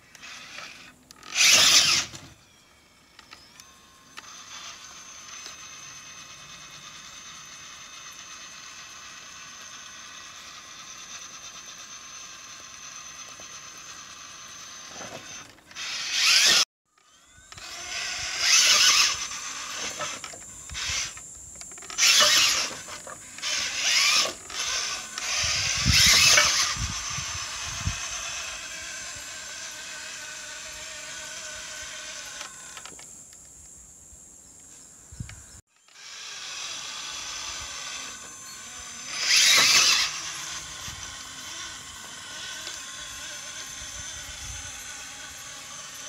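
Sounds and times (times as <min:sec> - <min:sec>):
electric motor and gears whining: 0:00.0 - 0:46.0.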